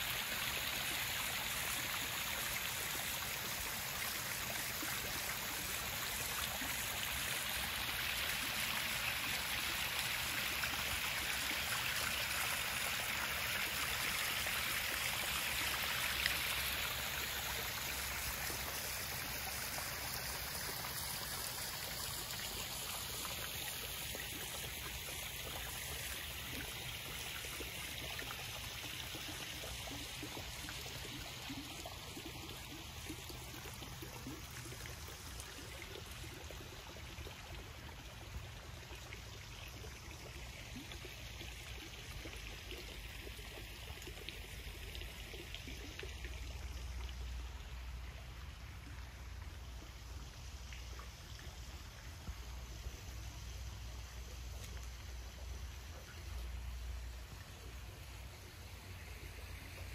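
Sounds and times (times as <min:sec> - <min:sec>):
waterfall splashing into pond: 0:00.0 - 0:59.9.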